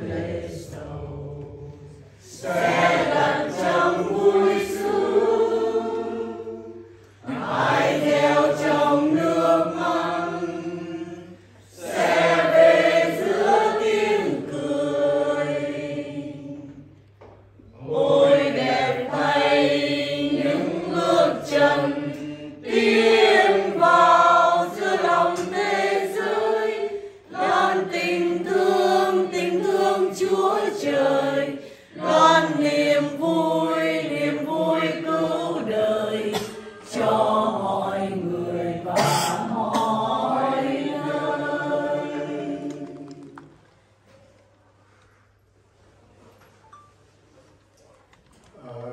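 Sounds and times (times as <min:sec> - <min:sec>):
congregation singing a hymn: 0:00.0 - 0:44.4.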